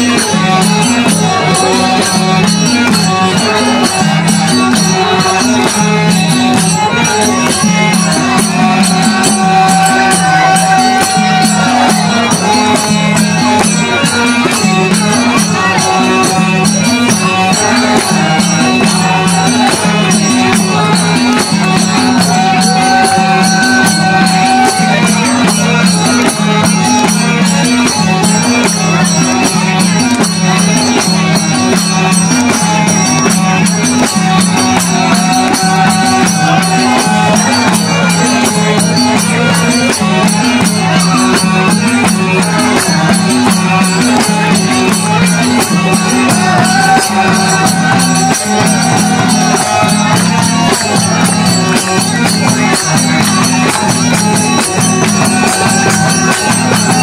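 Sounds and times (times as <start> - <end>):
hand drum beat: 0.0 - 57.0
harmonium melody: 0.0 - 57.0.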